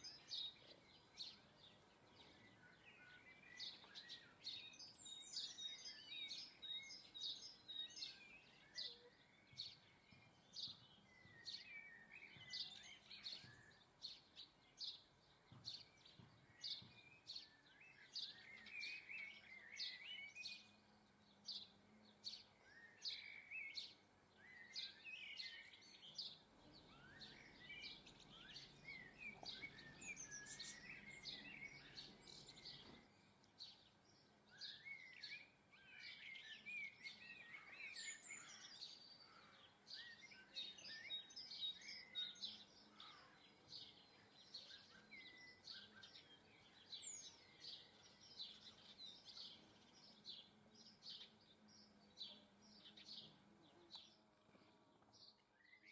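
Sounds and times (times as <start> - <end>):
small birds chirping and twittering: 0.0 - 55.9.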